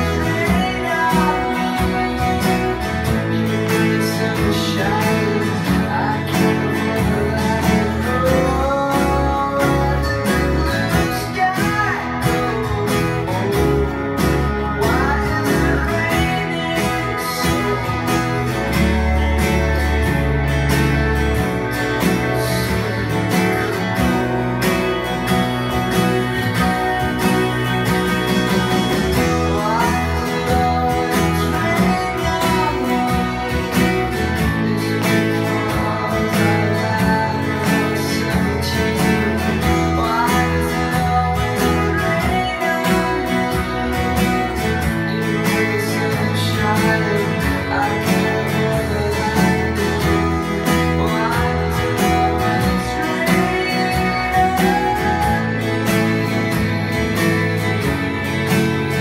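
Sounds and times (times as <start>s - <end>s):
acoustic guitar strumming: 0.0s - 59.0s
person singing: 0.0s - 59.0s.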